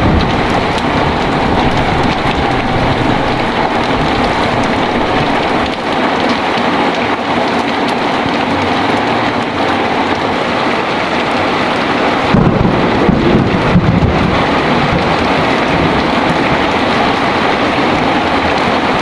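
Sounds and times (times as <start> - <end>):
thunder rumbling: 0.0 - 7.3, 10.9 - 19.0
heavy rain pouring: 0.0 - 19.0.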